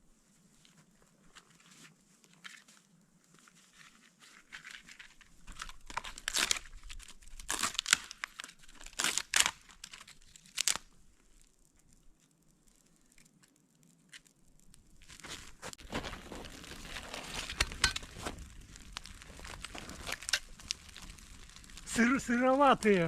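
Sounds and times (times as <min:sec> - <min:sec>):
rotten wood being torn apart: 0:04.5 - 0:23.0.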